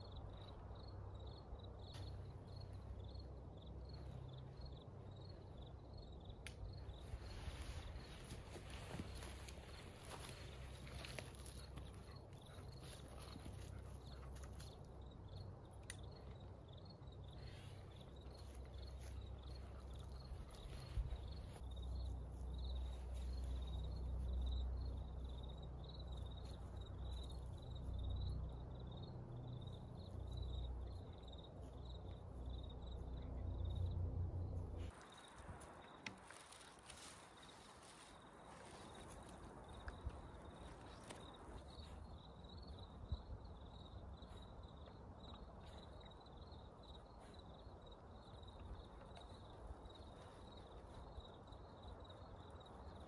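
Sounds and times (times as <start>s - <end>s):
insect chirping: 0.0s - 53.0s.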